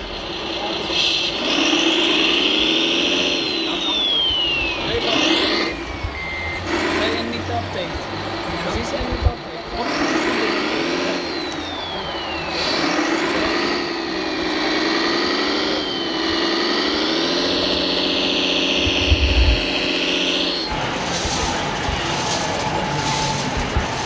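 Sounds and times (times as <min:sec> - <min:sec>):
electric motor whining: 0:00.8 - 0:24.0.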